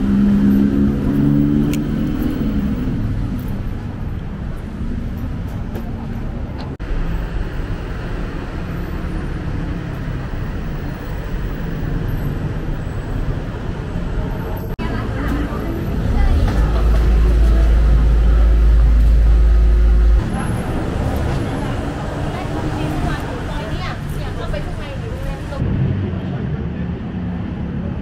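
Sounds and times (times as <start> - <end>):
cars passing: 0.0 - 28.0
engine hum: 0.0 - 28.0.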